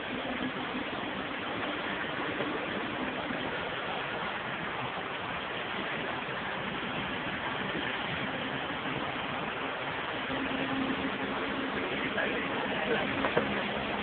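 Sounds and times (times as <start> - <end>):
road and engine noise in cabin: 0.0 - 14.0.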